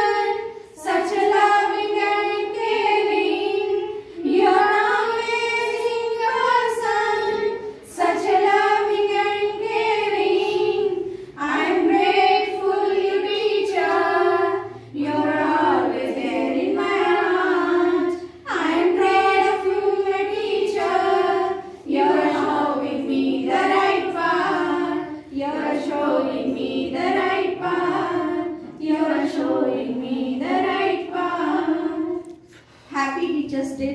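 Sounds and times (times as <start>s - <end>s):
women singing together: 0.0s - 33.9s.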